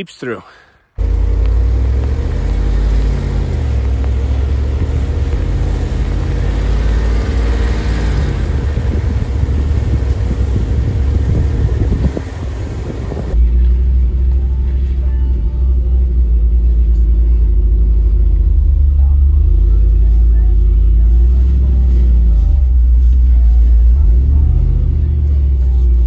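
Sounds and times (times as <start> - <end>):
engine and tyres rumbling on snow: 1.0 - 26.0.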